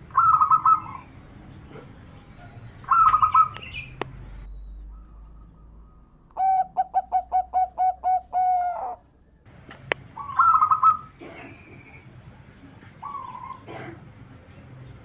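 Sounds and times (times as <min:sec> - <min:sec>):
dove cooing: 0:00.0 - 0:04.0, 0:04.9 - 0:09.1, 0:09.8 - 0:12.0, 0:12.7 - 0:14.7
high bird chirping: 0:00.0 - 0:12.2.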